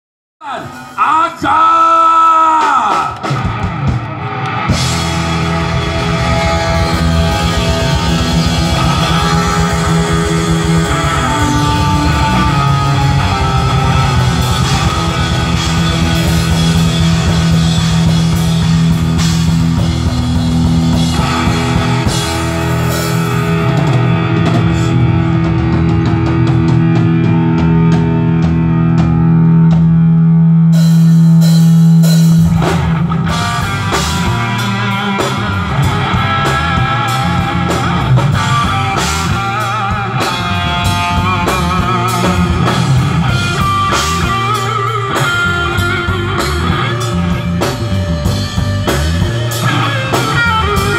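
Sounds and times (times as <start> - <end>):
drum kit: 0.4 - 50.9
electric guitar: 1.9 - 50.9
electric bass: 3.1 - 50.9.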